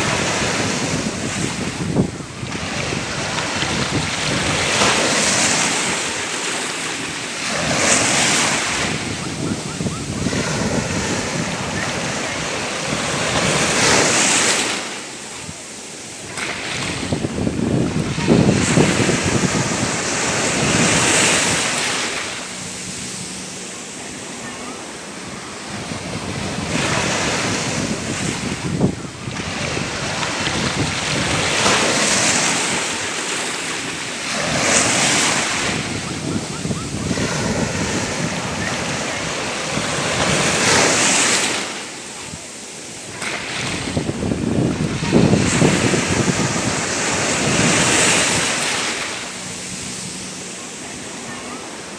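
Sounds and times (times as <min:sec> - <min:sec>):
wind noise on microphone: 0:00.0 - 0:24.6, 0:25.2 - 0:51.5
ocean waves breaking on beach: 0:00.0 - 0:51.9.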